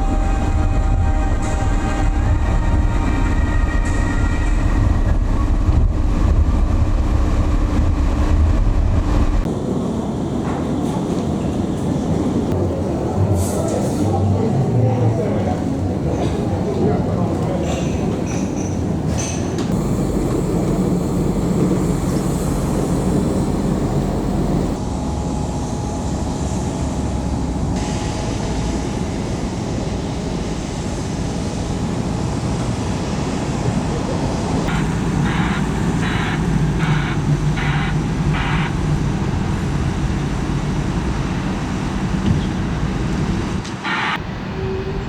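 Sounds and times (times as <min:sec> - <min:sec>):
rail vehicle rumbling: 0:00.0 - 0:45.0.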